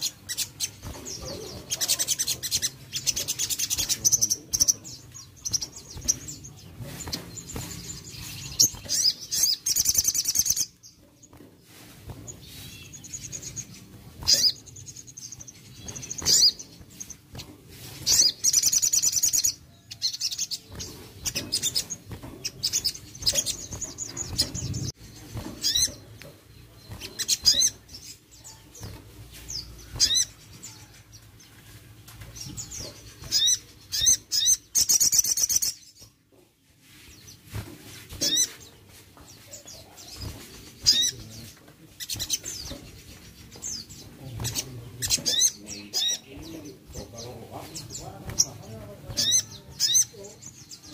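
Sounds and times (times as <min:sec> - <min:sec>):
wings fluttering against cage: 0:00.0 - 0:34.3, 0:34.9 - 0:50.9
songbird singing: 0:00.0 - 0:50.9.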